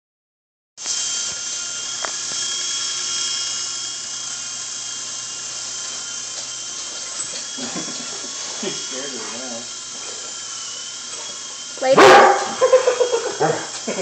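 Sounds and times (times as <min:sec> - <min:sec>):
toy helicopter motor whining: 0:00.8 - 0:14.0.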